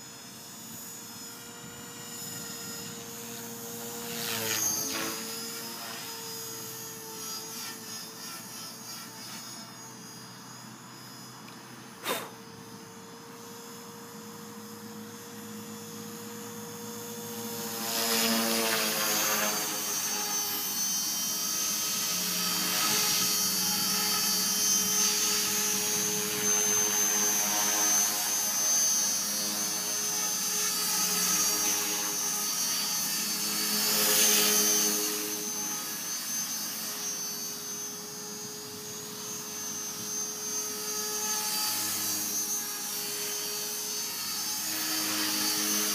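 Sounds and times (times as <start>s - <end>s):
rc helicopter motor and rotor whine: 0.0s - 45.9s.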